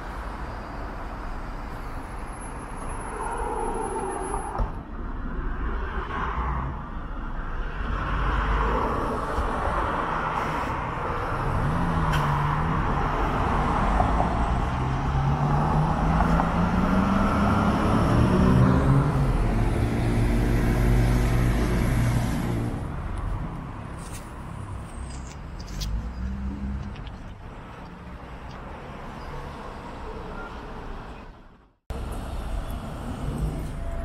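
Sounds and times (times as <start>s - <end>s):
road and tyre noise: 0.0s - 34.0s.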